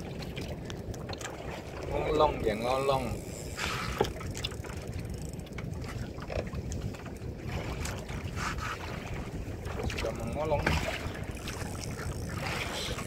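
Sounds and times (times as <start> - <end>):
boat engine rumbling: 0.0 - 13.0
wind on microphone: 0.0 - 13.0.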